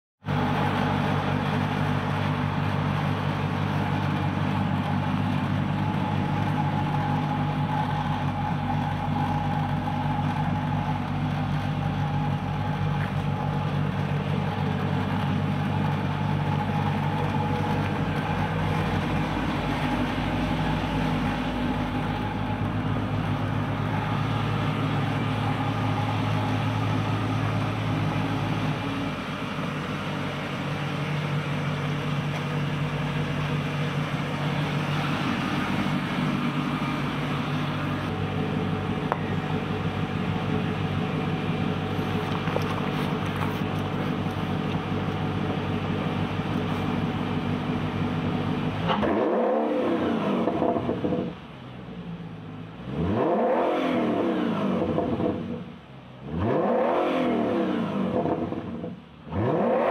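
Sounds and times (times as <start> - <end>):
car engine idling: 0.2 - 59.9.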